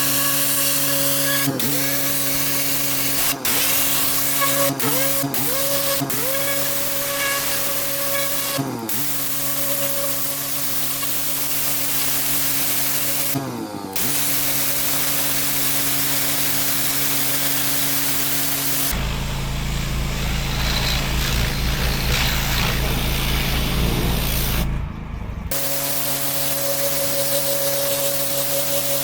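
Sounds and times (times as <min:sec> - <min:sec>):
pressure washer spraying water: 0:00.0 - 0:13.4, 0:14.0 - 0:24.7, 0:25.5 - 0:29.0
pressure washer machine hum: 0:00.0 - 0:29.0.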